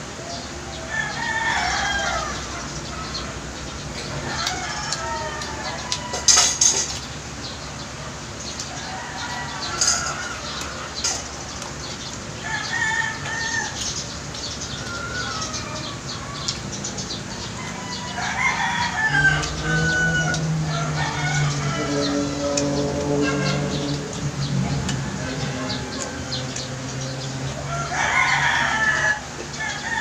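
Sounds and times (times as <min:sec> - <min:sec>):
chickens clucking: 0:00.2 - 0:30.0
rooster crowing: 0:00.7 - 0:03.3, 0:04.0 - 0:07.0, 0:08.6 - 0:11.2, 0:12.4 - 0:13.8, 0:14.6 - 0:30.0.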